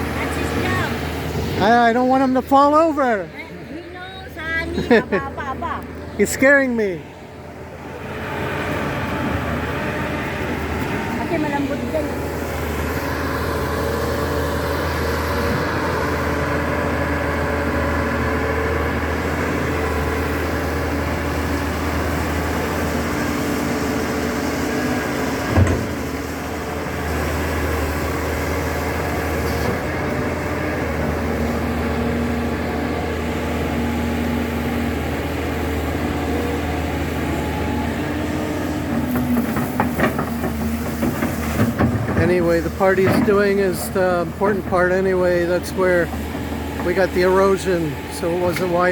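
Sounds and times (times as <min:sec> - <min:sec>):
backhoe engine running: 0:00.0 - 0:48.9.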